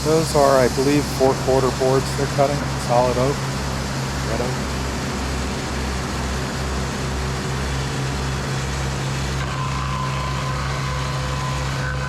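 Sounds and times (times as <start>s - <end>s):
diesel engine throbbing: 0.0s - 12.0s
high-pitched whine: 0.0s - 12.0s.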